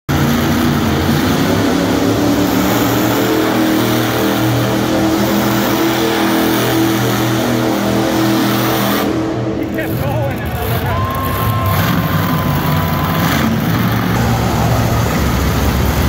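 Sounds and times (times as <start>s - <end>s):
monster truck engine running: 0.1s - 16.0s.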